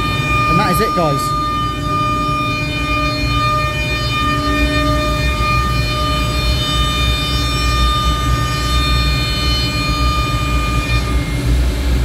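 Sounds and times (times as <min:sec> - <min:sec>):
router spindle whine: 0:00.0 - 0:11.9
dust extractor drone: 0:00.0 - 0:12.0.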